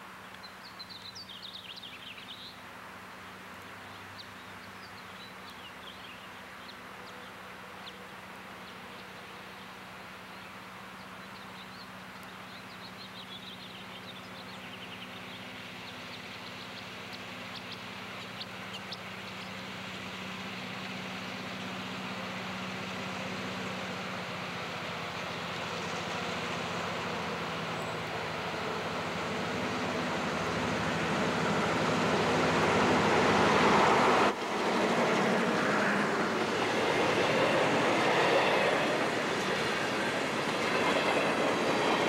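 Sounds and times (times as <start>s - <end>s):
diesel locomotive engine drone: 0.0s - 42.0s.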